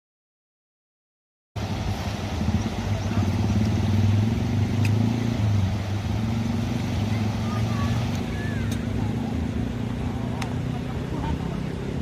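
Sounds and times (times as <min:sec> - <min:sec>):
engine rumbling: 0:01.6 - 0:12.0.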